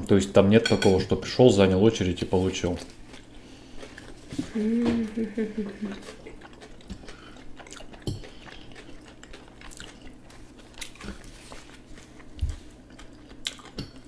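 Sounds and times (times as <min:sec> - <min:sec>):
people chewing: 0:02.2 - 0:14.0.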